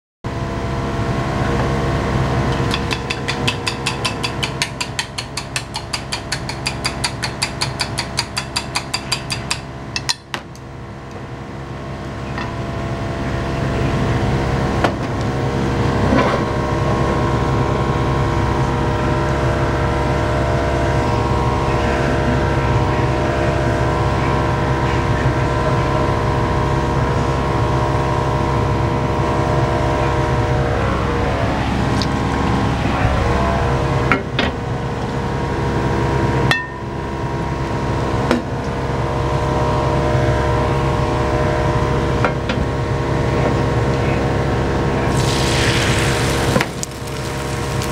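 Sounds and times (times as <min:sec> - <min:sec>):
exhaust fan drone: 0:00.3 - 0:47.9.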